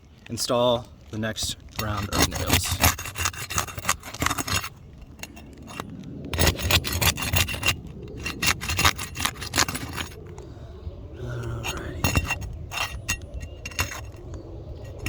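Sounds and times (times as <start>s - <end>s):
scraping on gritty roof shingles: 0.0s - 15.0s.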